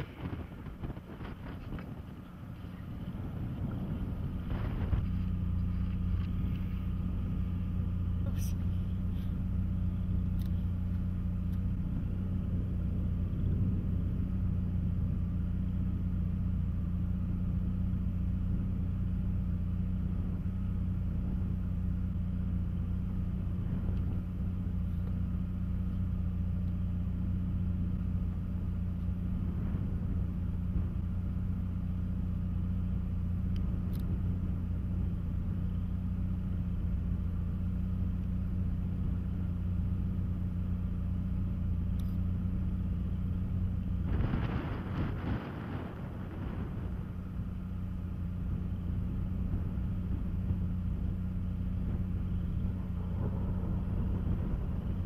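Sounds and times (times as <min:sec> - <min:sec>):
road and wind noise: 0:00.0 - 0:55.0
vehicle engine droning: 0:00.0 - 0:55.0.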